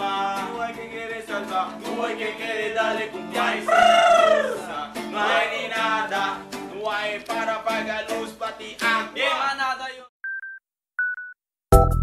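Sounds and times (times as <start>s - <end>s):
person singing: 0.0s - 9.8s.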